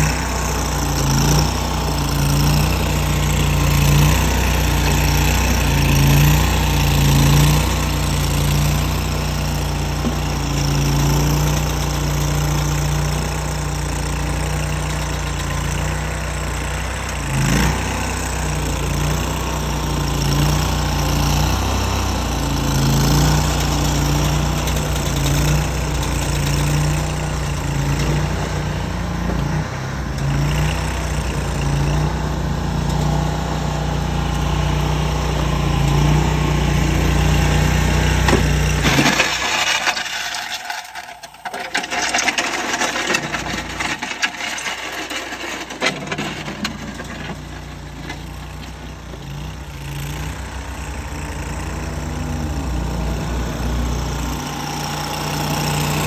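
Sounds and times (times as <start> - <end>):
skid steer engine running: 0.0 - 56.0.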